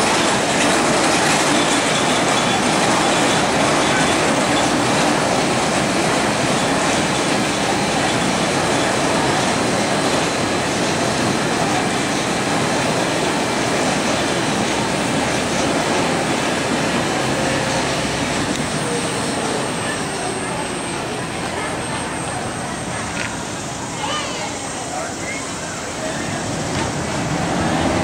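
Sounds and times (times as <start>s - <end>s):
roller coaster chain lift running: 0.0s - 28.0s.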